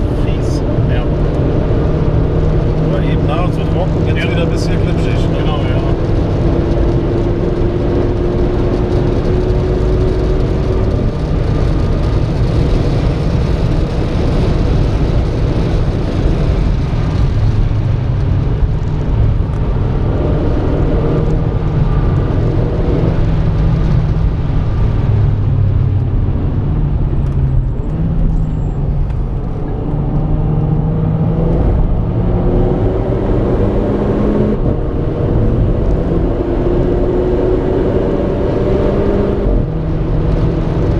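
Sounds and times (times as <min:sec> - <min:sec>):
car engine accelerating through gears: 0:00.0 - 0:40.9
road and tyre noise: 0:00.0 - 0:40.9.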